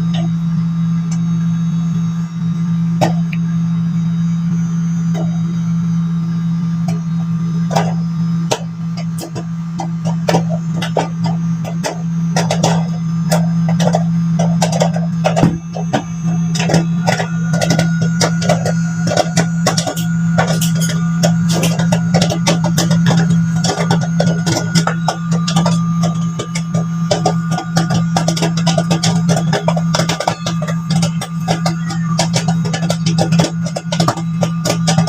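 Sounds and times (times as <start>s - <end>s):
microwave oven hum: 0.0s - 35.0s
popcorn popping: 6.8s - 35.0s.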